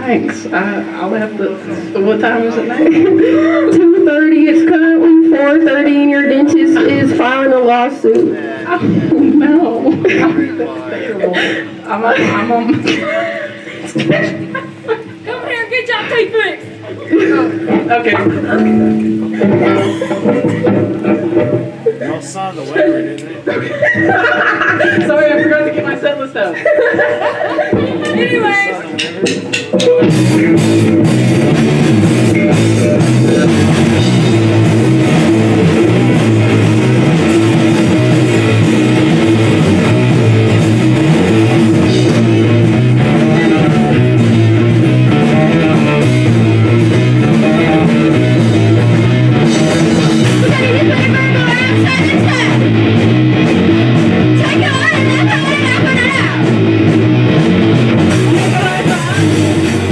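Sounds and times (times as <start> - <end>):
bass guitar: 0.0 - 13.2, 13.8 - 26.0, 29.2 - 59.9
drums: 0.0 - 59.9
electric guitar: 0.0 - 59.9.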